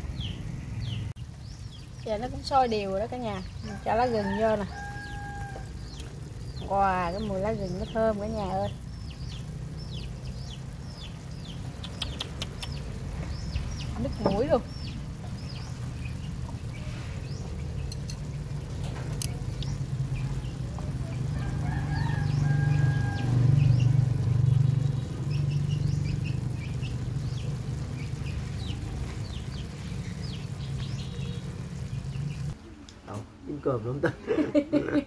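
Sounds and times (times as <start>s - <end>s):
chickens calling: 0.0s - 32.9s
small birds chirping: 0.0s - 34.0s.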